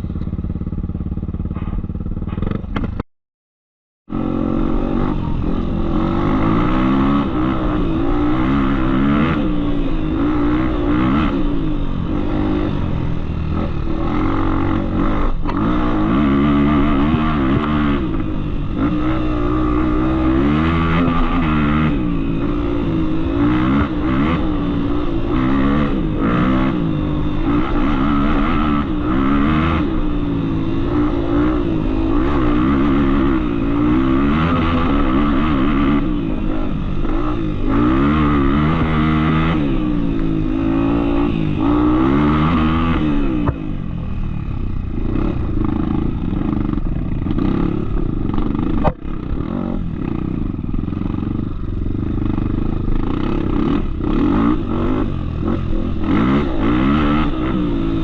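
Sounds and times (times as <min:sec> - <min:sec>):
motorcycle engine revving: 0:00.0 - 0:03.0, 0:04.1 - 0:58.0.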